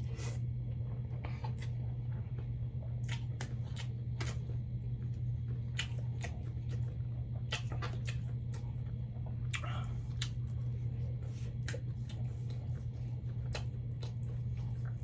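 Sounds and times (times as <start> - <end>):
steady low hum: 0.0 - 15.0
wet chewing: 1.0 - 15.0.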